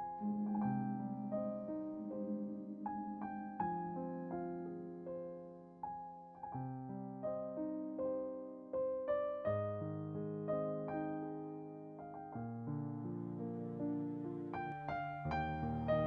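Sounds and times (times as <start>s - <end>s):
soft slow piano music: 0.0s - 16.0s.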